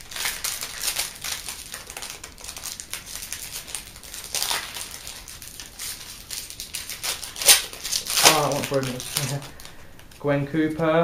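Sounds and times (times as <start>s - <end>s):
foil wrapper crinkling: 0.0s - 10.3s.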